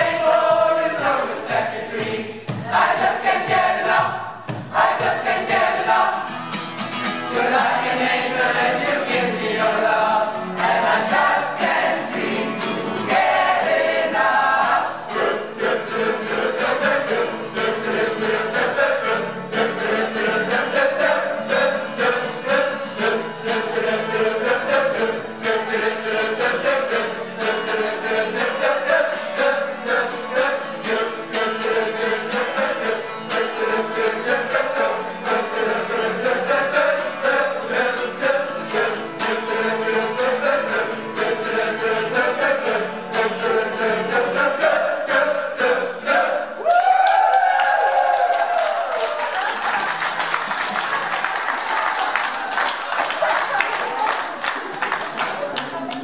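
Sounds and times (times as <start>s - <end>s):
group singing in chorus: 0.0s - 50.7s.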